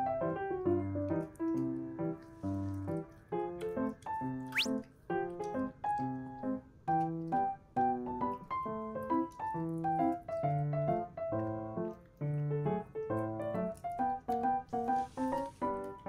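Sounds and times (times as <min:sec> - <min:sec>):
piano-like keyboard tune: 0:00.0 - 0:16.0.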